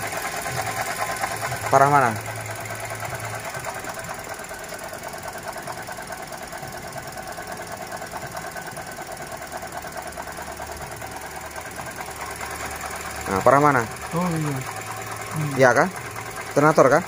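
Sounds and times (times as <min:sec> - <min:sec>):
car engine idling: 0:00.0 - 0:17.0
rapid ticking rattle: 0:00.0 - 0:17.0.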